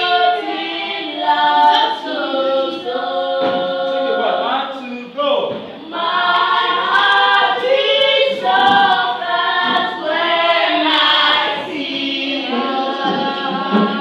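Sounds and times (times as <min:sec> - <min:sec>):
students singing unaccompanied: 0:00.0 - 0:14.0.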